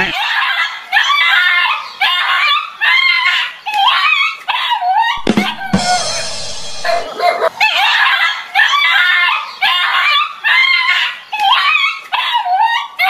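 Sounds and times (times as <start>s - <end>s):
high-pitched screaming cries: 1.0s - 13.0s.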